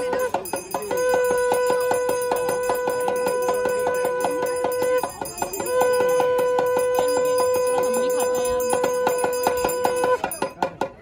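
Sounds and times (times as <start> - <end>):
bell rung rapidly: 0.0 - 11.0.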